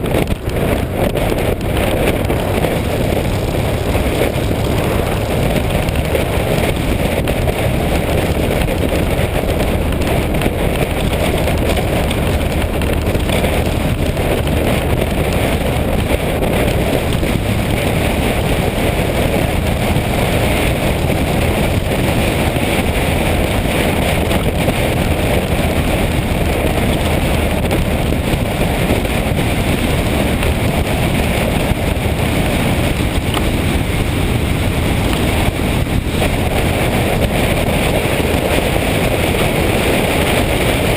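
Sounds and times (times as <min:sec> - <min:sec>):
motorcycle engine and road noise: 0:00.0 - 0:40.9
wind buffeting microphone: 0:00.0 - 0:40.9.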